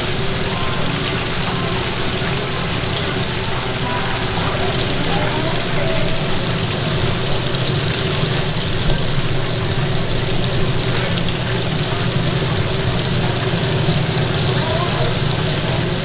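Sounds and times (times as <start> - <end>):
oil sizzling in fryer: 0.0 - 16.0.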